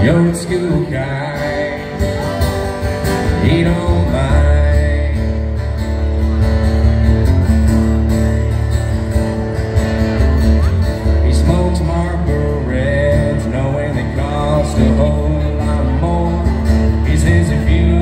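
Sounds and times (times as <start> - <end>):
acoustic guitar strummed: 0.0 - 18.0.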